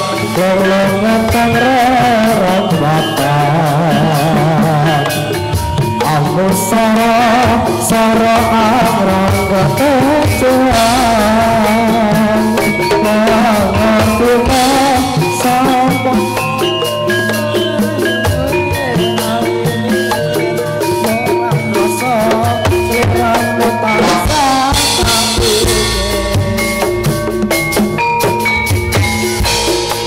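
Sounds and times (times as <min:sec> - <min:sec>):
person singing: 0:00.0 - 0:27.7
drums and percussion: 0:00.0 - 0:30.0
wavering vibrato melody: 0:00.0 - 0:30.0.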